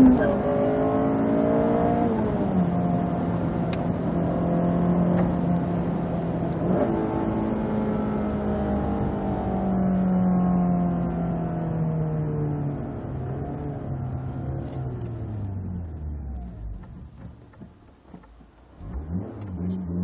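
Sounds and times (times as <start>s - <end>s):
car engine from inside cabin: 0.0s - 20.0s.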